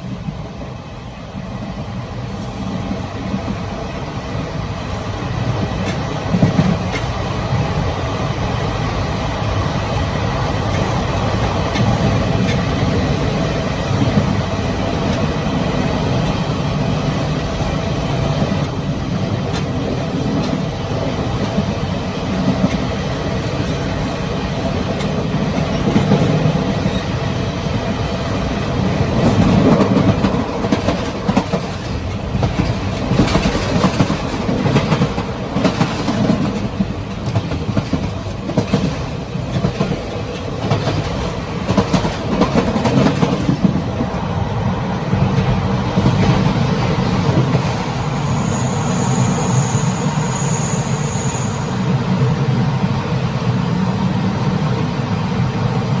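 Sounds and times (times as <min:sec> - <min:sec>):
train rumble and rattle: 0:00.0 - 0:56.0.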